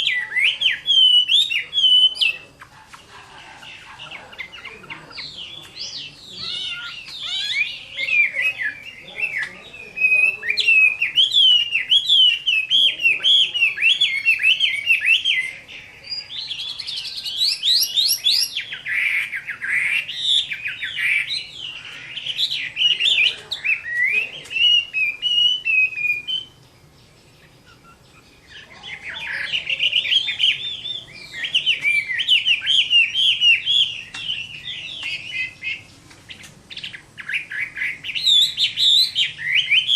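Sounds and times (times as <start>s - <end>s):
bird singing whistled notes: 0.0s - 2.6s, 3.8s - 39.9s.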